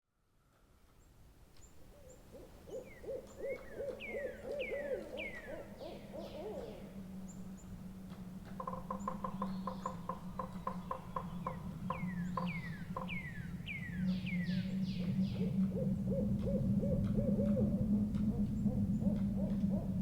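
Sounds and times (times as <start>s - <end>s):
owl hooting: 1.9s - 7.7s, 8.5s - 20.0s
steady low hum: 3.6s - 20.0s.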